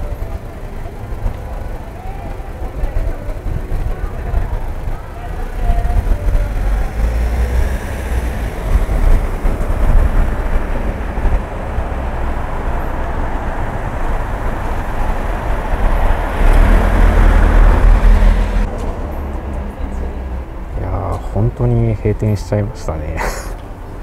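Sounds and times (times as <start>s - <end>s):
vehicle passing by: 0.0s - 22.4s
passing vehicles rumbling: 0.0s - 24.0s.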